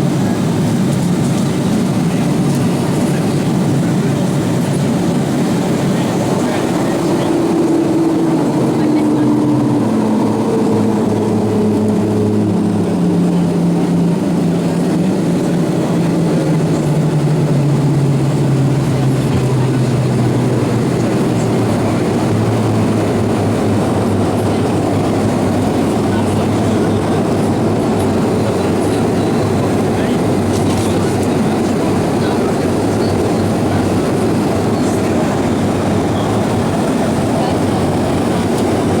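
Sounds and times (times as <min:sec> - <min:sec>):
aircraft cabin rushing noise: 0:00.0 - 0:39.0
jet engines humming: 0:00.0 - 0:39.0.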